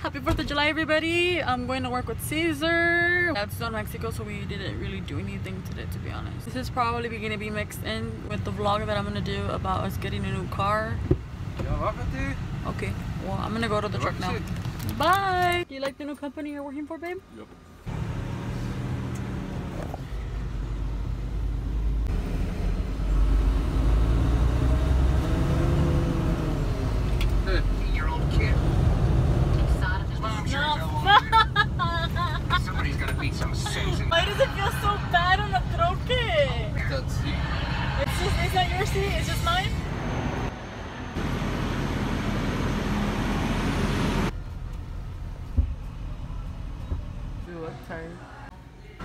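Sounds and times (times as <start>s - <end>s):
engine and road rumble: 0.0s - 49.0s.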